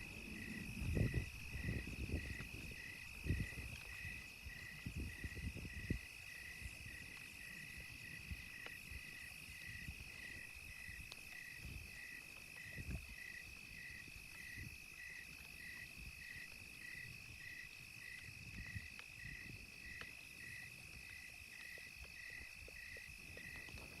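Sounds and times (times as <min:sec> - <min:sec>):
campfire crackling: 0:00.0 - 0:24.0
insect chirping rhythmically: 0:00.0 - 0:24.0.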